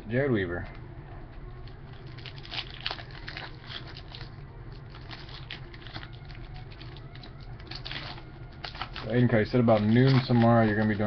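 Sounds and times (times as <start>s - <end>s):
low steady hum: 0.0s - 11.0s
cards crinkling and clicking: 1.6s - 11.0s.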